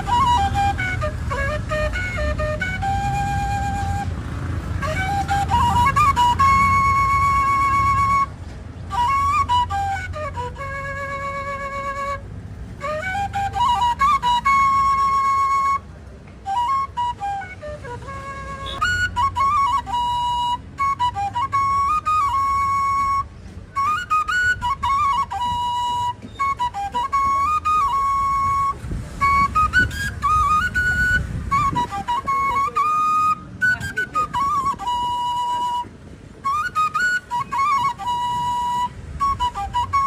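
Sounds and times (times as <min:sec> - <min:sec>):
solo flute melody: 0:00.0 - 0:40.0.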